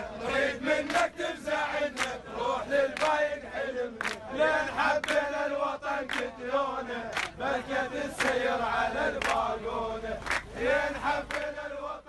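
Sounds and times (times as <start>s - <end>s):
crowd of men chanting: 0.0s - 12.0s.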